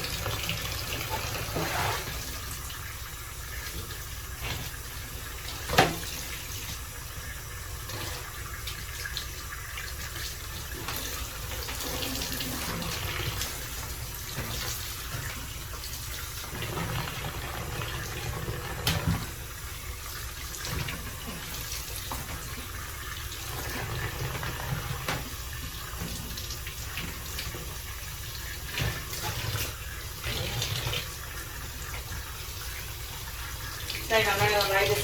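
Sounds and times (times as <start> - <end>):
water running from tap: 0.0 - 35.0.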